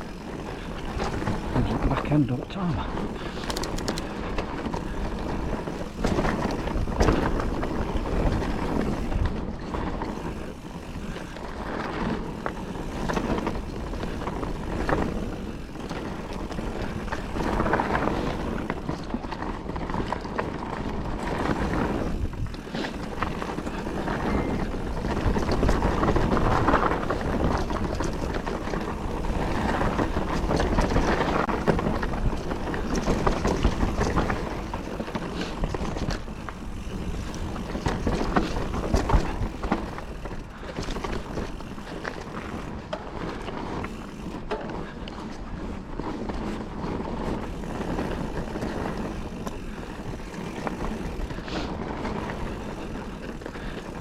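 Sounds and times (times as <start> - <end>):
bike rattling and knocking: 0.0 - 54.0
bike tyres on dirt trail: 0.0 - 54.0
wind buffeting microphone: 0.0 - 54.0.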